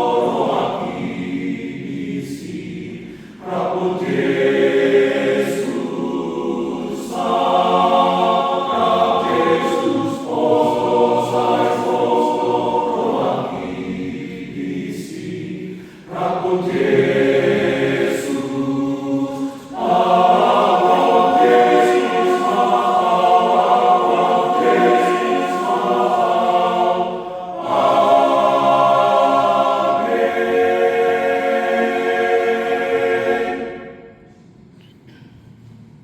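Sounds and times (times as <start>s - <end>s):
men's choir singing a hymn: 0.0s - 34.2s.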